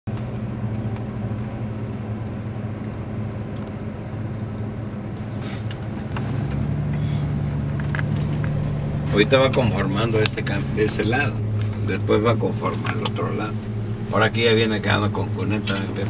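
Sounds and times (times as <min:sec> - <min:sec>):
diesel engine running: 0:00.1 - 0:16.0.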